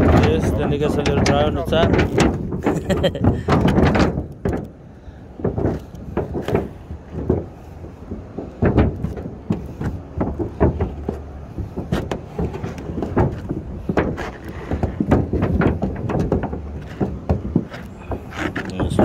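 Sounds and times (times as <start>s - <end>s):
spreader scraping roof tar: 0.0s - 4.7s, 5.4s - 19.0s.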